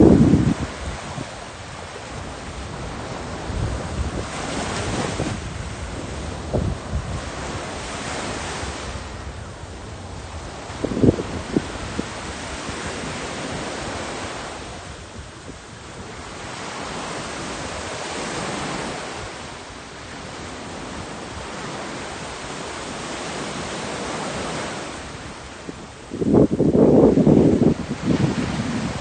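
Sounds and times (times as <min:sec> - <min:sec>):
small waves washing on beach: 0:00.0 - 0:29.0.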